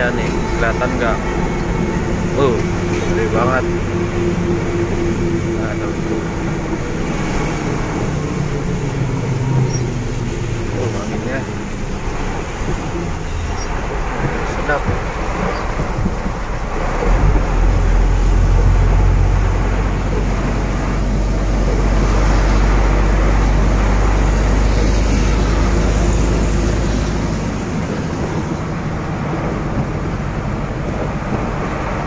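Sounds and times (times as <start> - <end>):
truck engine drone: 0.0 - 32.0
rain and wet road spray hiss: 4.1 - 32.0.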